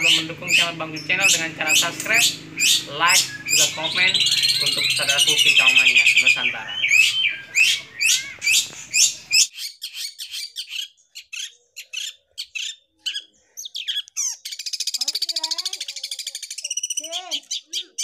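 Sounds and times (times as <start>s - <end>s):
bird high calls: 0.0s - 18.0s.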